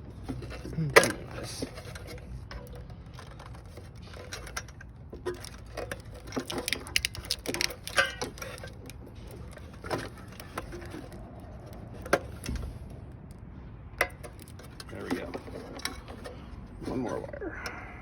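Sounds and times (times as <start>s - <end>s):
hand tools clicking and clattering: 0.0s - 13.3s, 14.0s - 17.8s.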